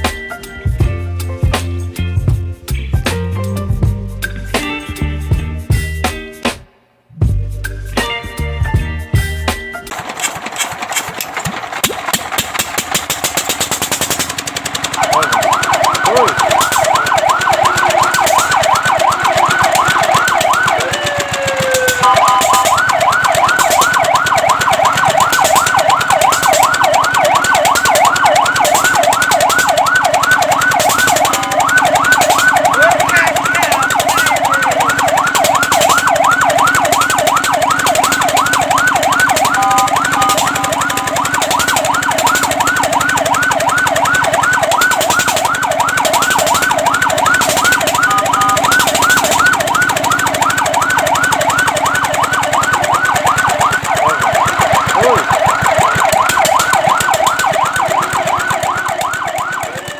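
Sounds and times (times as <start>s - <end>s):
fire truck siren yelping: 9.9s - 59.9s.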